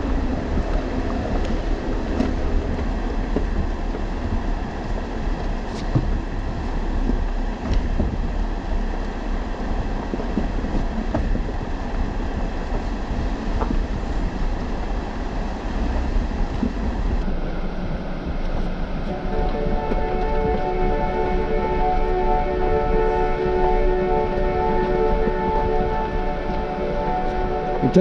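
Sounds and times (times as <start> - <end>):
vehicle rumbling over rough trail: 0.0 - 28.0.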